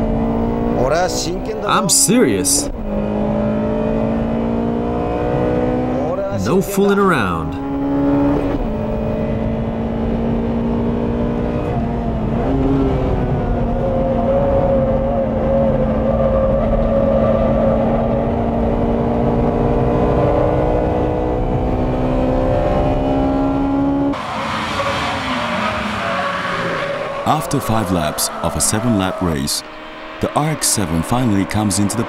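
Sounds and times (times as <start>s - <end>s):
car engine at high revs: 0.0s - 32.0s.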